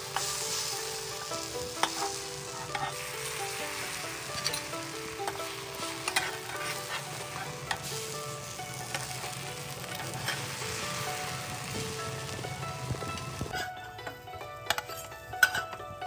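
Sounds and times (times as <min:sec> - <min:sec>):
metal spatula and tongs scraping: 0:00.0 - 0:12.3, 0:13.0 - 0:15.9
bread sizzling in hot oil: 0:00.0 - 0:13.7.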